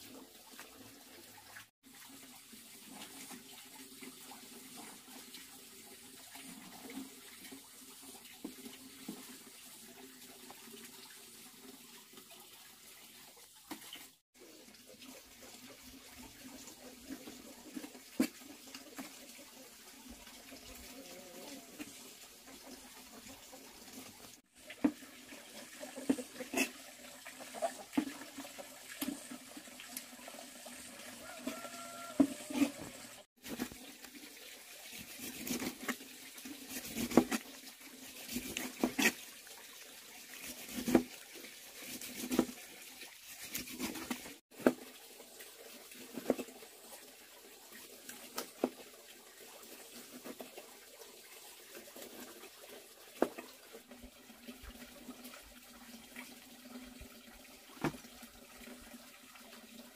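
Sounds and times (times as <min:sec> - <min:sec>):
water sloshing and trickling: 0:00.0 - 0:59.9.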